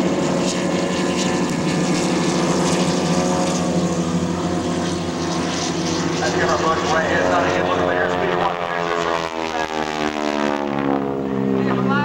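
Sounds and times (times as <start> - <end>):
propeller plane engine droning overhead: 0.0 - 12.0.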